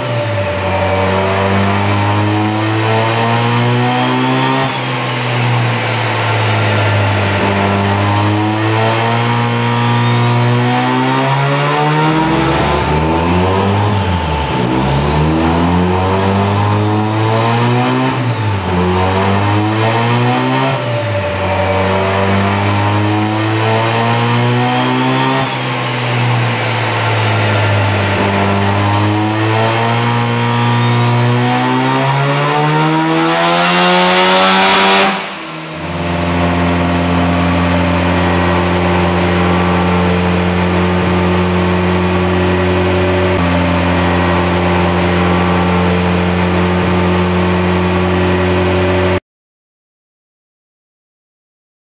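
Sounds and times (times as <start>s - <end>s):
rotary engine running under load: 0.0s - 49.1s.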